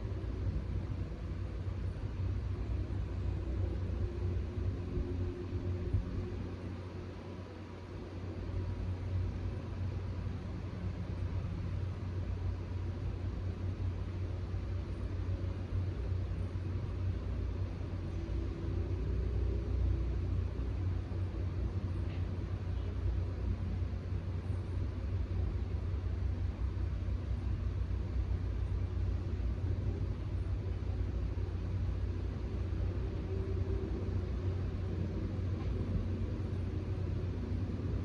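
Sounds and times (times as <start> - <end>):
faint background hiss: 0.0 - 38.0
steady low rumble: 0.0 - 38.0.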